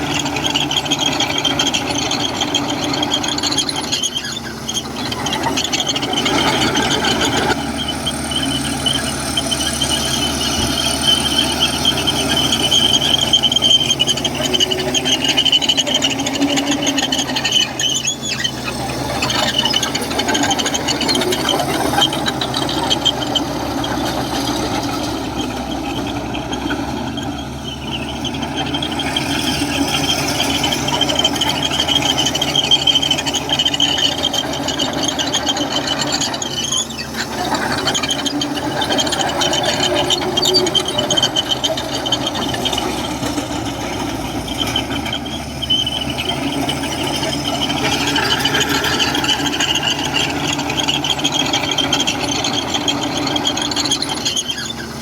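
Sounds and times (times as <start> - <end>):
bulldozer tracks squealing: 0.0 - 55.0
diesel engine running: 0.0 - 55.0.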